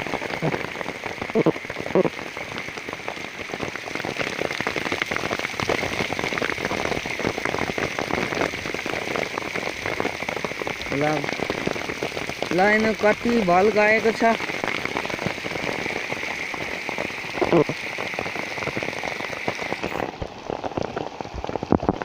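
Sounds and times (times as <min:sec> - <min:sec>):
heavy rain falling: 0:00.0 - 0:22.0
raindrops pattering: 0:00.0 - 0:22.0.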